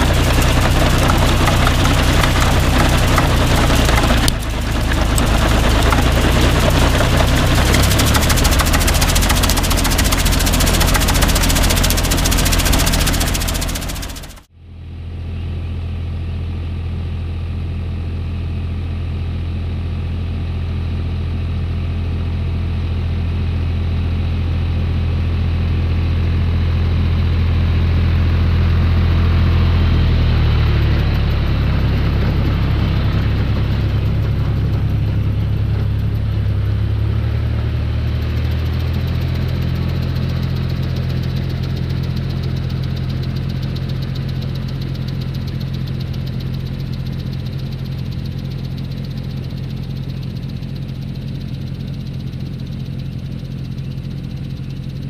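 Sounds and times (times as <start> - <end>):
tractor engine running: 0.0 - 14.5, 24.7 - 55.0.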